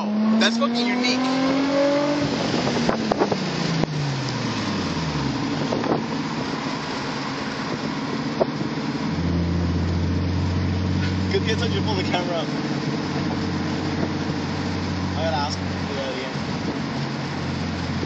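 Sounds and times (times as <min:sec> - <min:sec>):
car exhaust note: 0:00.0 - 0:18.0
low engine drone: 0:00.0 - 0:18.0
road and wind noise: 0:00.0 - 0:18.0.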